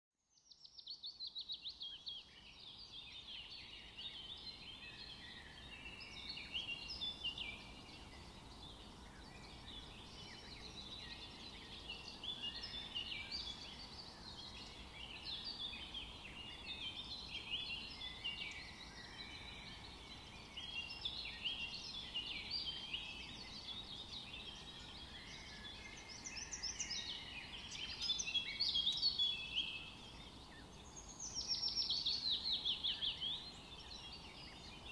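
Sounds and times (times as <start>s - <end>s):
small birds chirping: 0.3s - 34.9s.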